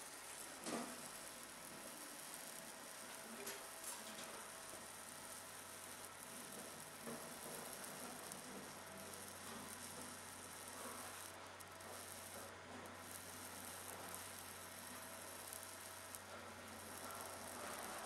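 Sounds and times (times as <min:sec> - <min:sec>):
laser cutting hiss: 0:00.0 - 0:18.0.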